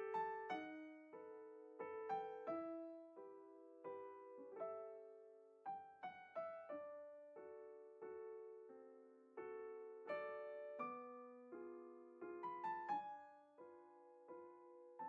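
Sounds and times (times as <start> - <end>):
quiet solo piano: 0.0 - 15.0.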